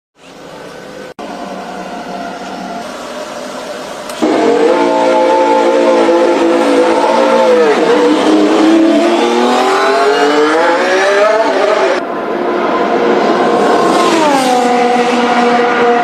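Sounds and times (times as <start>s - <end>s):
racing car engine at high revs: 2.8s - 16.0s.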